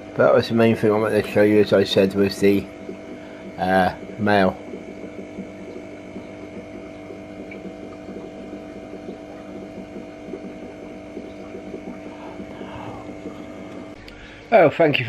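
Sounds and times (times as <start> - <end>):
aquarium pump humming: 0.0 - 15.0
faint crackle: 1.2 - 14.4.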